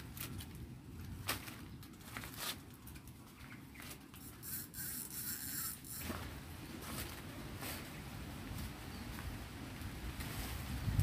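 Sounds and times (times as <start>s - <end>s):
faint footsteps in grass: 0.0s - 4.2s, 6.0s - 11.0s
rustling in grass and bushes: 0.0s - 11.0s.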